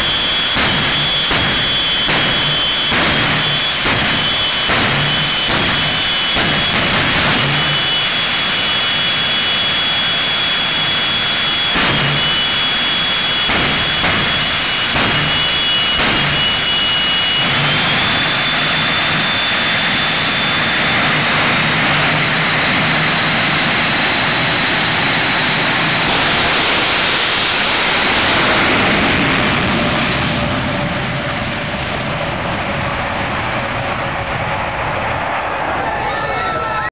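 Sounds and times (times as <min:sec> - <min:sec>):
jet engine roaring: 0:00.0 - 0:36.9.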